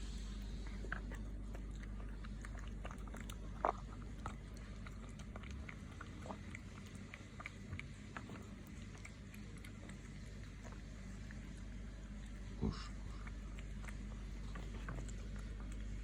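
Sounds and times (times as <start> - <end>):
cat chewing food: 0.0 - 16.0
steady low hum: 0.0 - 16.0.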